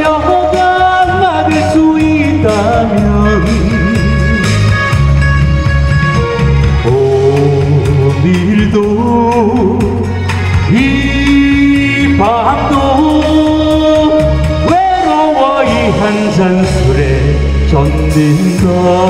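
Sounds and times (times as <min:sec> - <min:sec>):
man singing into a microphone: 0:00.0 - 0:05.0, 0:06.4 - 0:19.0
amplified band playing: 0:00.0 - 0:19.0.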